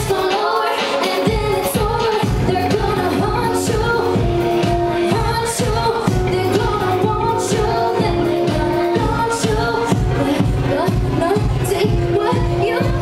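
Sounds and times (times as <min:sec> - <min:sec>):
loud music with steady beat: 0:00.0 - 0:13.0
woman singing into microphone: 0:00.0 - 0:13.0.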